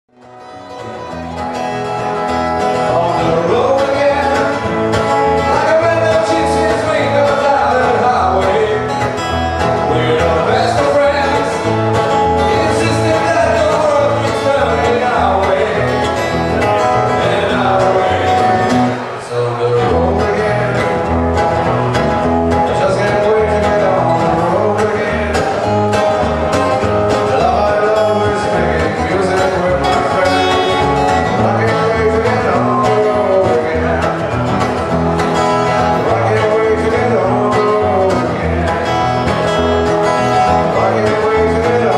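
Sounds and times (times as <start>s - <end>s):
guitars: 0.1s - 41.9s
country bluegrass band playing: 0.2s - 41.9s
person singing: 2.6s - 41.9s.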